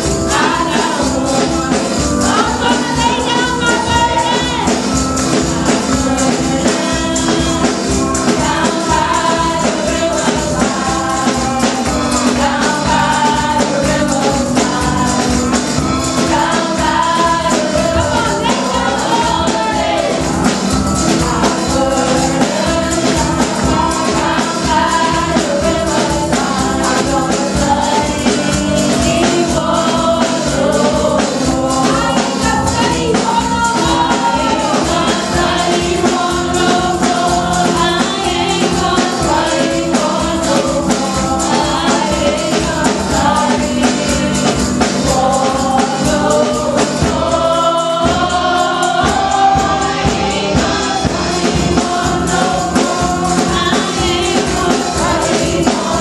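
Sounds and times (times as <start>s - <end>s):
band accompaniment with steady beat: 0.0s - 56.0s
group singing gospel: 0.0s - 56.0s.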